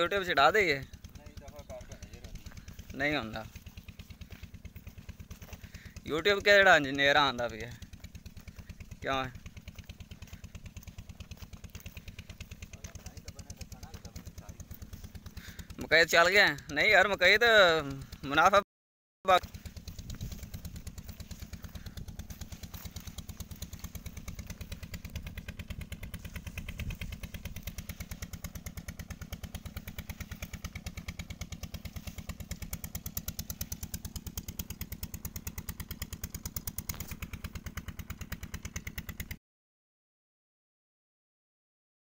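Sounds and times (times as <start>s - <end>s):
diesel engine running: 0.0s - 18.6s, 19.3s - 39.4s.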